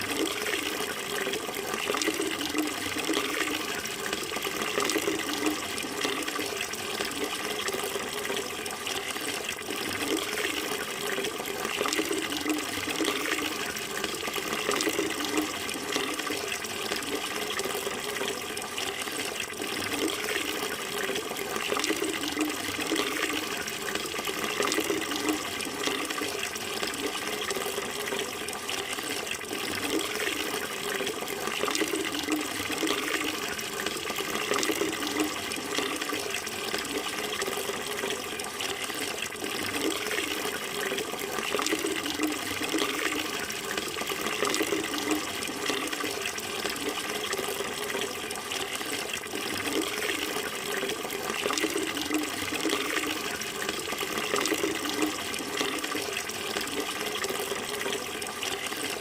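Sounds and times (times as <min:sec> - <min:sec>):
water running and splashing: 0:00.0 - 0:59.0.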